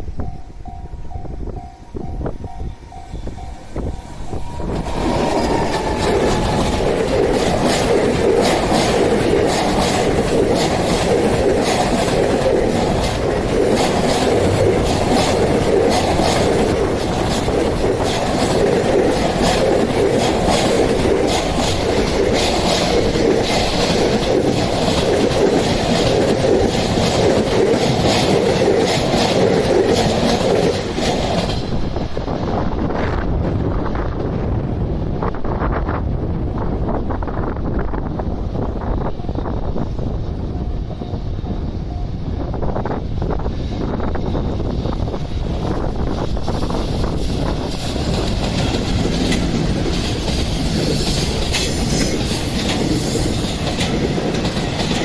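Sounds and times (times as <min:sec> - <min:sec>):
train wheels clattering over rails: 0:02.4 - 0:35.8, 0:36.6 - 0:55.0.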